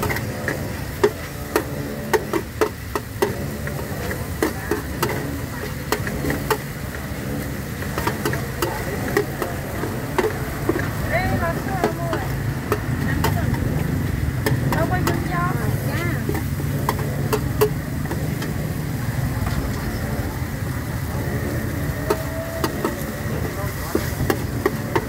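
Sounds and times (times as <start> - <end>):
utensils clanking against a pot: 0.0 - 25.0.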